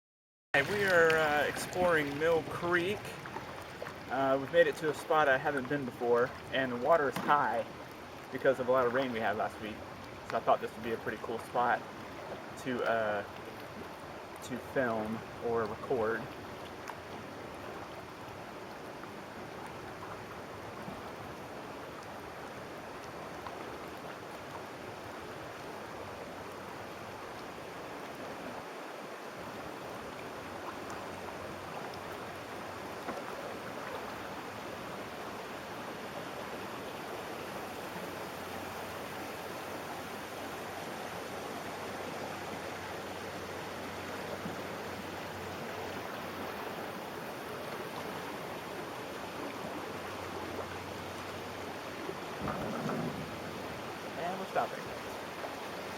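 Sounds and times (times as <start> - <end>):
creek rapids rushing: 0.6 - 55.9.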